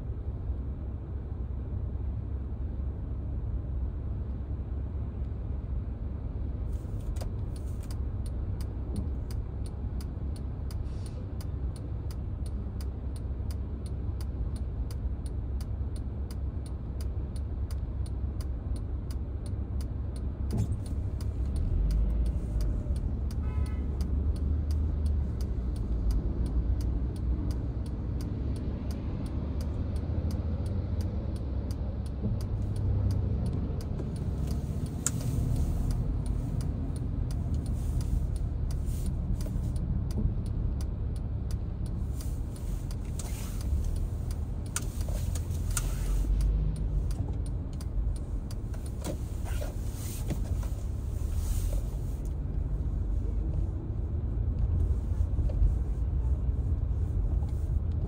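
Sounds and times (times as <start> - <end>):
car engine and road noise: 0.0 - 58.0
faint ticks: 7.0 - 58.0.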